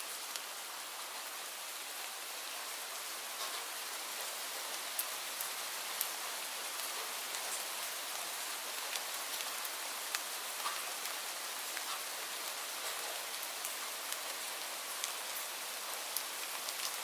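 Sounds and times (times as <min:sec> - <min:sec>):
raindrops ticking on a surface: 0:00.0 - 0:17.0
steady rain falling: 0:00.0 - 0:17.0.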